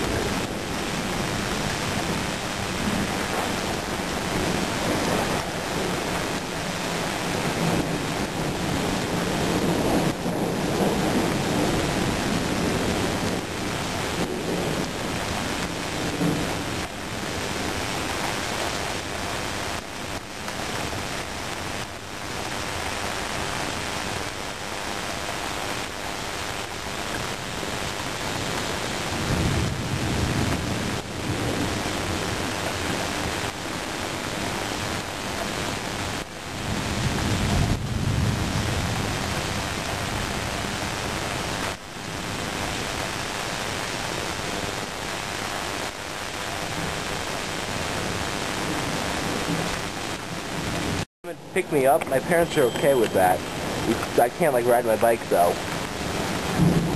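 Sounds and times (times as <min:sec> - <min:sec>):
low thunder rumbling: 0:00.0 - 0:26.0, 0:26.7 - 0:56.9
heavy rain falling: 0:00.0 - 0:56.9.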